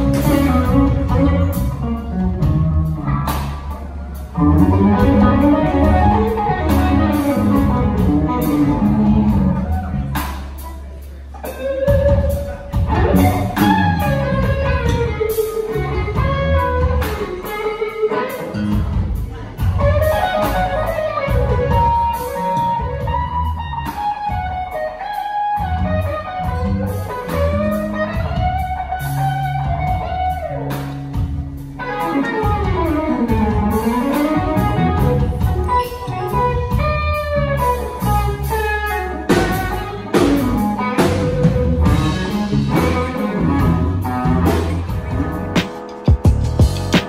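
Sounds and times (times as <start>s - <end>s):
drum kit: 0.0s - 47.0s
electric bass: 0.0s - 47.0s
electric guitar lead: 0.0s - 47.0s.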